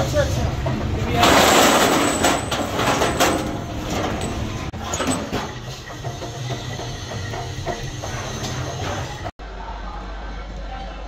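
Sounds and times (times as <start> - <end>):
workshop machinery humming: 0.0 - 9.4.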